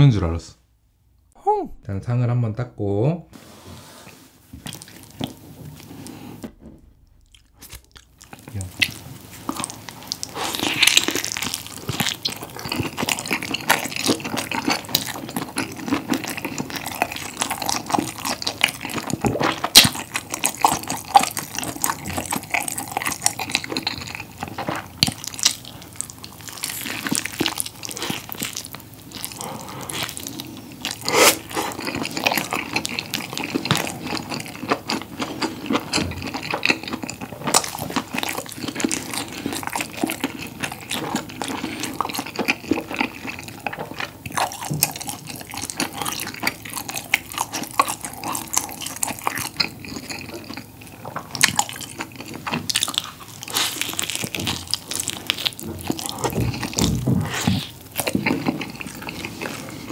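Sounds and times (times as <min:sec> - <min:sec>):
person chewing food: 0:04.4 - 0:59.9.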